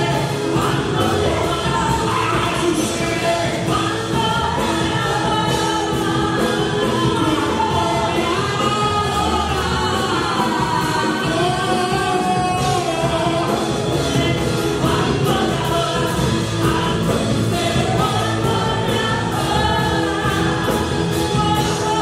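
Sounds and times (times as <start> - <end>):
church band playing: 0.0 - 22.0
voices singing together: 0.0 - 22.0.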